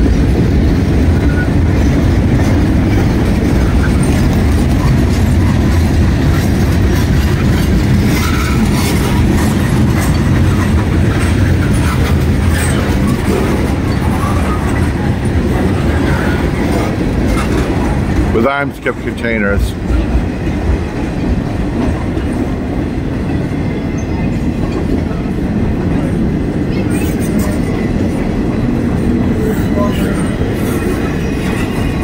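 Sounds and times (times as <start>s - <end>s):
clicks and clanks of freight cars: 0.0s - 32.0s
train wheels rumbling on rails: 0.0s - 32.0s.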